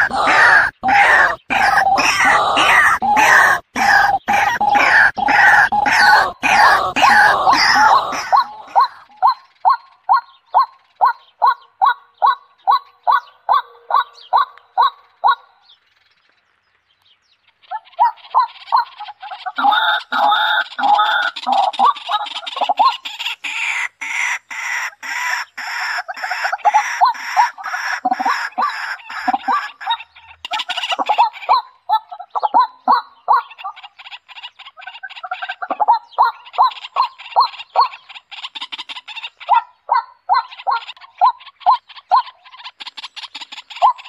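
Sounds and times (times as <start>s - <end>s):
waterhen honking calls: 0.0s - 15.5s, 17.5s - 44.0s.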